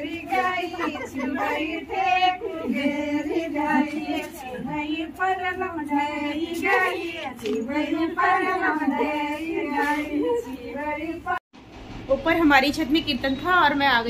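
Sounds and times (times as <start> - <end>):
women singing in unison: 0.0 - 11.4.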